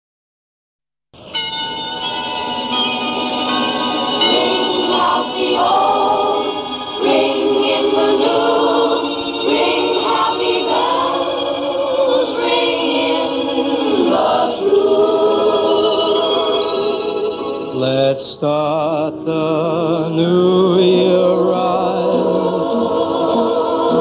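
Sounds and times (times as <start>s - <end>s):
choir singing over held chords: 2.3s - 24.0s.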